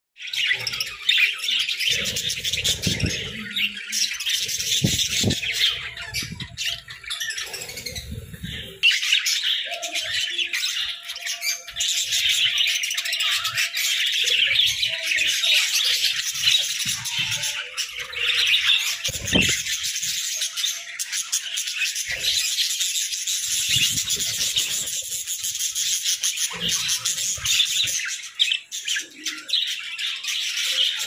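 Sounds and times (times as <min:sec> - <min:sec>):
budgerigars chattering: 0:00.2 - 0:31.0.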